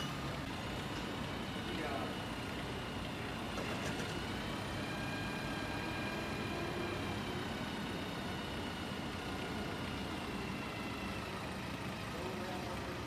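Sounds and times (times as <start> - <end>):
diesel engine running: 0.0 - 13.0
hydraulics whining: 0.0 - 13.0.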